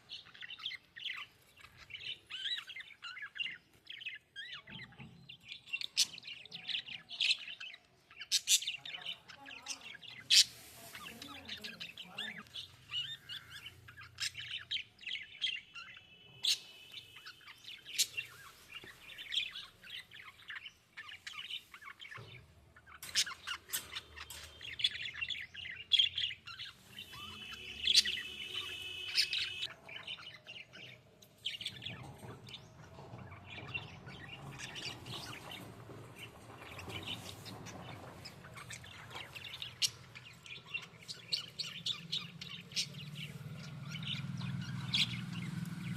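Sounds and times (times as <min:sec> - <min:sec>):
budgerigars chirping: 0:05.7 - 0:45.9.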